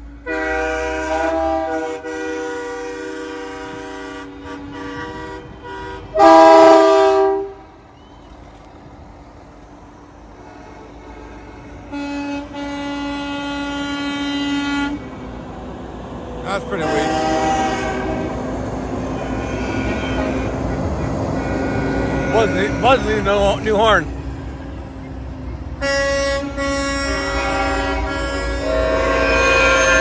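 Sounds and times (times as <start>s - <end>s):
truck air horns blasting: 0.0s - 7.8s, 10.4s - 15.3s, 16.5s - 24.8s, 25.8s - 30.0s
truck engines rumbling: 0.0s - 30.0s.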